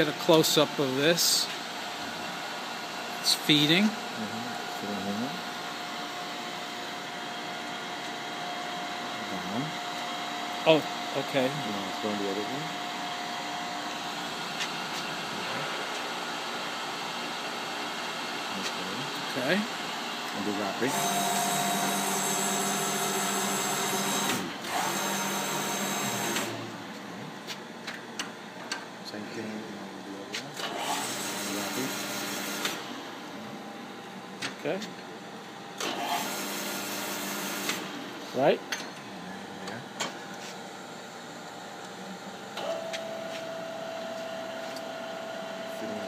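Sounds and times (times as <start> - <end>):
machine hum: 0.0 - 46.0
milling machine power feed whine: 0.0 - 46.0.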